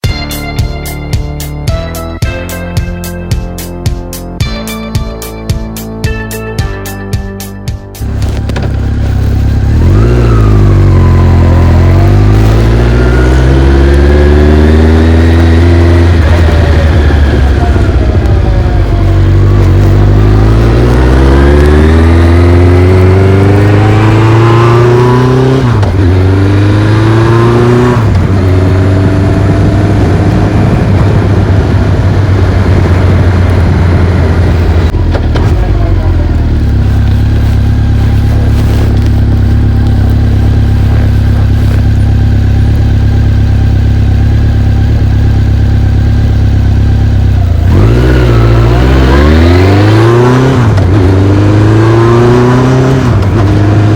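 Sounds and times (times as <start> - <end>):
motorcycle engine accelerating: 8.0 - 53.9.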